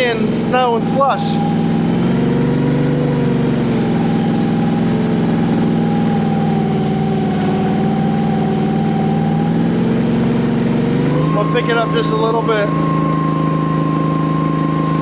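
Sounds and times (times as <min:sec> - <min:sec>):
engine running steadily: 0:00.0 - 0:15.0
steady whine: 0:00.0 - 0:15.0.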